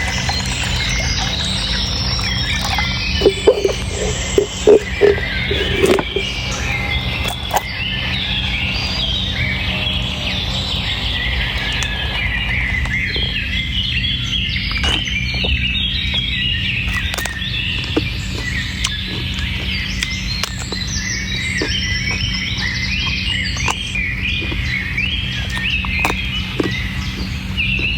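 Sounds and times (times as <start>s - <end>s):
small birds chirping: 0.0s - 27.9s
steady low hum: 0.0s - 27.9s.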